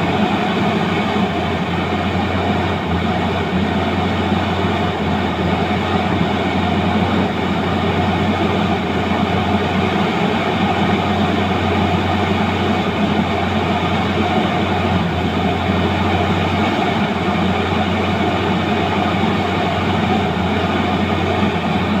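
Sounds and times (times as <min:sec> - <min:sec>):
diesel engine and hydraulics humming: 0:00.0 - 0:22.0.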